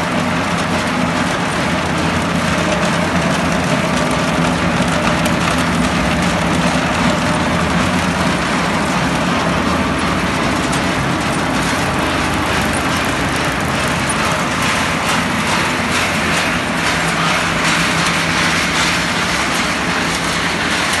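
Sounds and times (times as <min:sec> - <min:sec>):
machinery mechanical din: 0:00.0 - 0:21.0.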